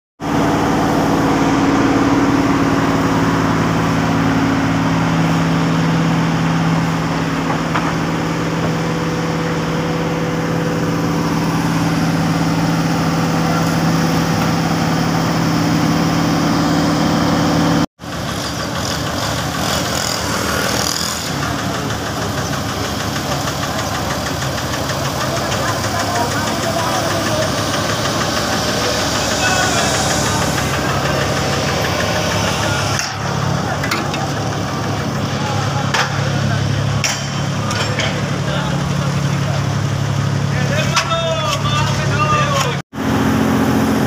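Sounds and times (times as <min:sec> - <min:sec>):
diesel engine droning: 0:00.2 - 0:44.0.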